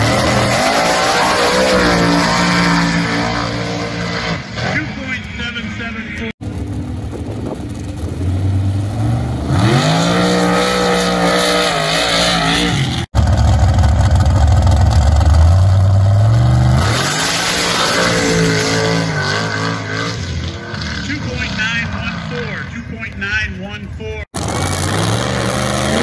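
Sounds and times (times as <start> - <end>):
engines revving at full throttle: 0.0 - 26.0.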